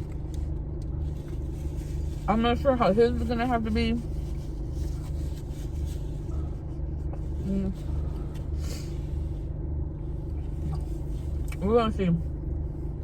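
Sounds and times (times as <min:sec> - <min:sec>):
idling car hum: 0:00.0 - 0:13.0.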